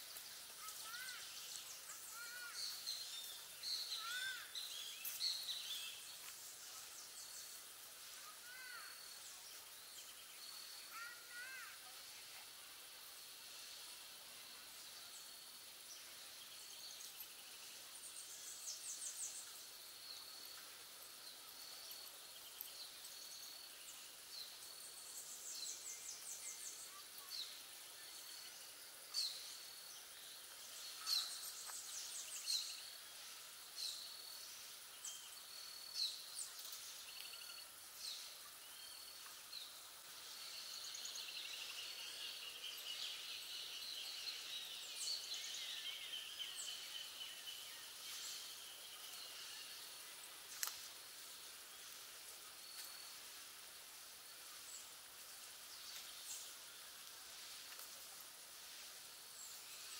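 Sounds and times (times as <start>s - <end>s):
birds chirping and trilling: 0.0s - 12.4s, 13.6s - 50.9s
background hiss: 0.0s - 59.9s.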